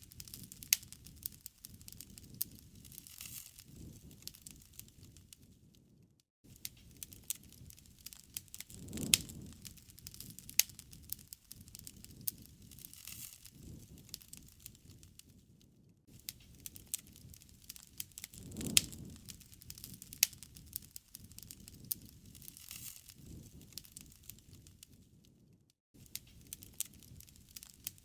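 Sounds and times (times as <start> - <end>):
campfire crackling and popping: 0.0 - 28.0
rush of burning: 0.0 - 28.0.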